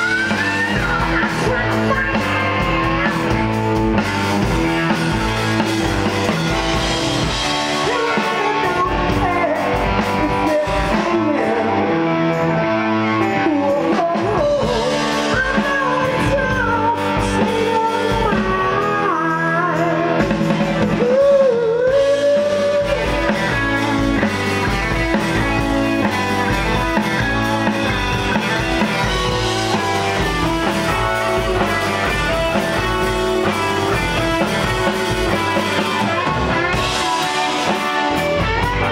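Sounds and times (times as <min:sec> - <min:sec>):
person singing: 0:00.0 - 0:05.0, 0:07.2 - 0:38.9
rock band playing: 0:00.0 - 0:38.9.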